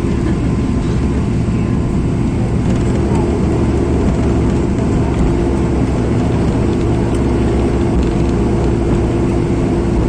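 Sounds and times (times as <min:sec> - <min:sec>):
jet cabin engine rumble: 0:00.0 - 0:10.0
steady hum: 0:00.0 - 0:10.0.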